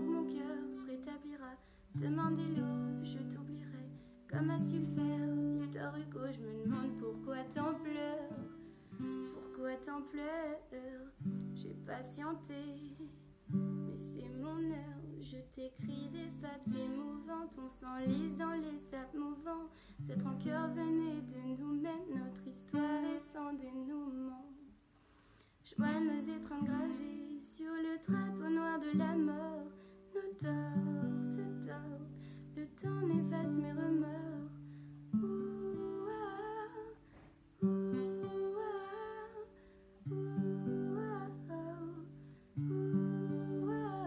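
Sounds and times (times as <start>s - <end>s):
acoustic guitar chords: 0.0s - 24.3s, 25.8s - 44.0s
woman singing softly: 0.0s - 24.8s, 25.6s - 44.0s.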